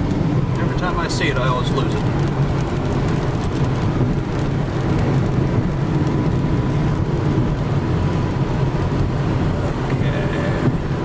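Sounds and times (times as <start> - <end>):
car engine hum: 0.0 - 11.0
tyres hissing on wet pavement: 0.1 - 11.0.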